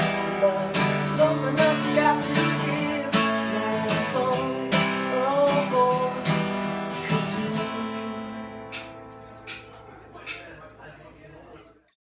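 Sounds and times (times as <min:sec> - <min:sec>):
acoustic guitar strummed chords: 0:00.0 - 0:10.6.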